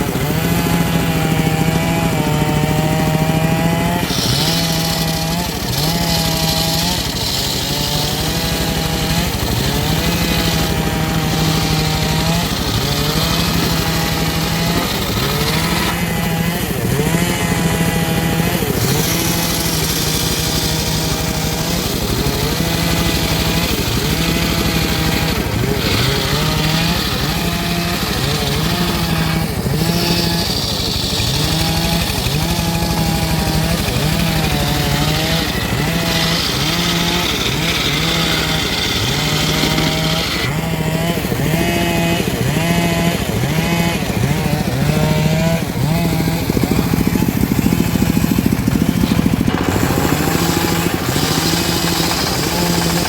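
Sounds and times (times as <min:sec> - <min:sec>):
engine-driven saw motor: 0:00.0 - 0:53.0
saw blade cutting wood hiss: 0:02.2 - 0:48.1, 0:48.8 - 0:53.0.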